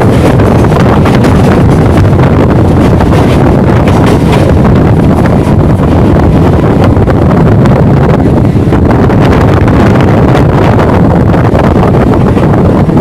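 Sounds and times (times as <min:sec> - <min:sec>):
train rumbling on the track: 0:00.0 - 0:13.0
wind blowing on microphone: 0:00.0 - 0:13.0.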